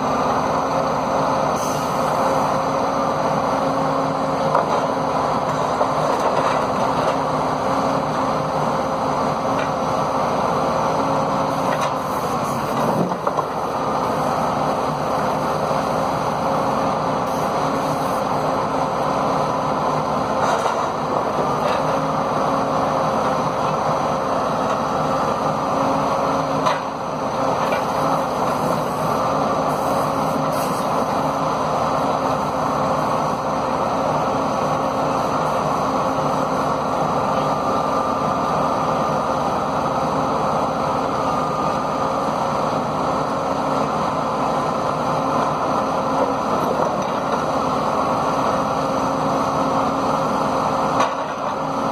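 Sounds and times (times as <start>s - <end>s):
diesel engine and hydraulics running: 0.0s - 51.9s.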